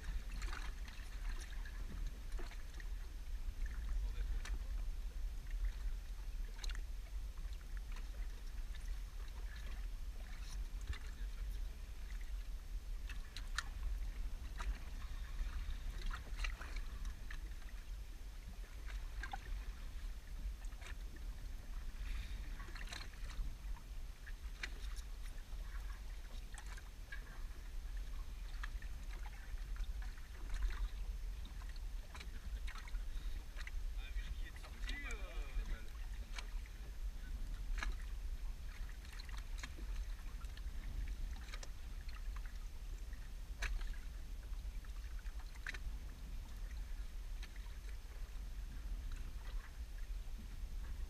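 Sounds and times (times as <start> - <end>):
steady low rumble: 0.0 - 51.0
waves lapping against boat hull: 0.0 - 51.0.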